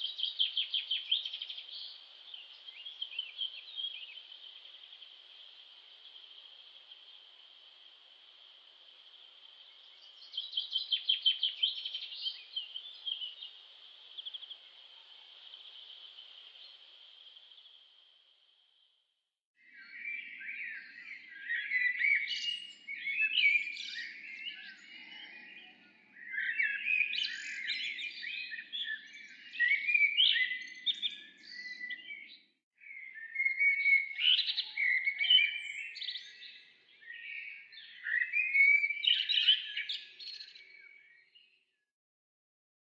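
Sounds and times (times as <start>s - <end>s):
songbirds singing and chirping: 0.0s - 18.9s, 19.6s - 41.8s.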